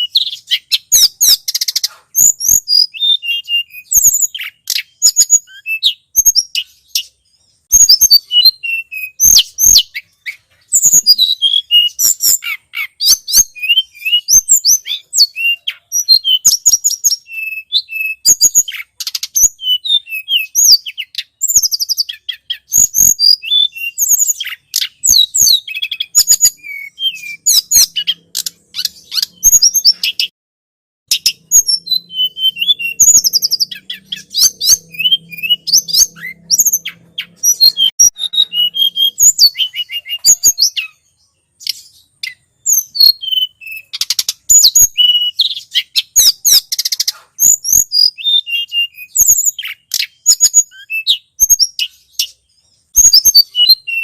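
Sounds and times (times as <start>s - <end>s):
recorded birdsong chirps and trills: 0.0s - 30.3s, 31.1s - 54.0s.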